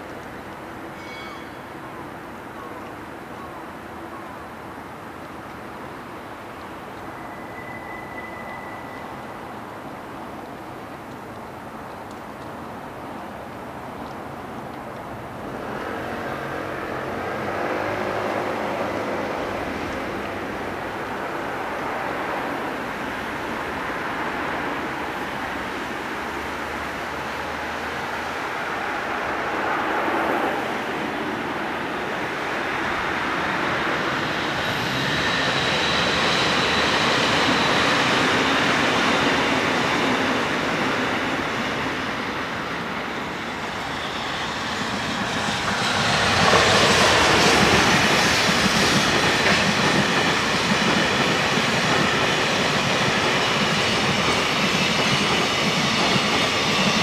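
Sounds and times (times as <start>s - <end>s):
commuter train rolling through: 0.0s - 57.0s
freight train rumbling past: 0.0s - 57.0s.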